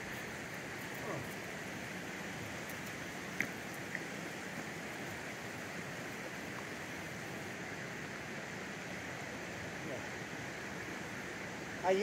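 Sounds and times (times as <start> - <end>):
river flowing over rocks: 0.0 - 12.0.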